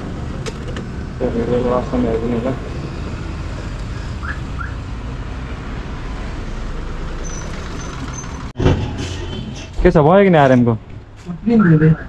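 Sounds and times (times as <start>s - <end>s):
low vehicle engine rumble: 0.0s - 12.0s.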